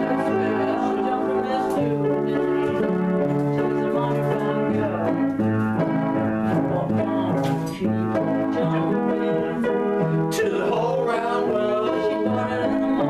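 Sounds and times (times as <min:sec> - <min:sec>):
piano playing chords: 0:00.0 - 0:13.0.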